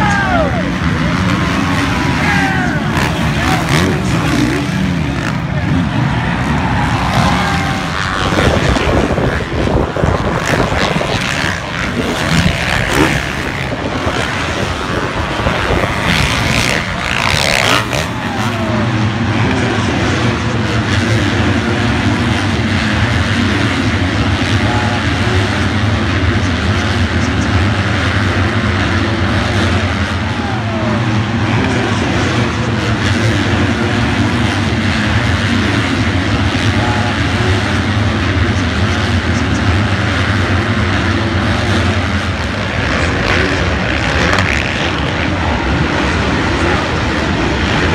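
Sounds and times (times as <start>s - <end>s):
motocross bikes racing: 0.0s - 47.9s.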